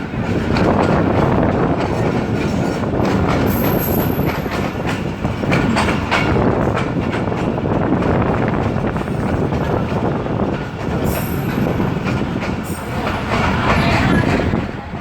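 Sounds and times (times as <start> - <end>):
train rumbling: 0.0 - 15.0
wheels clattering over rail joints: 0.0 - 15.0.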